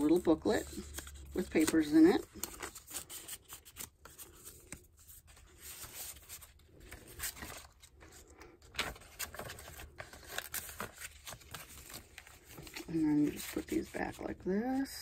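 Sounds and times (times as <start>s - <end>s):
paper rustling and sliding: 0.1s - 14.2s.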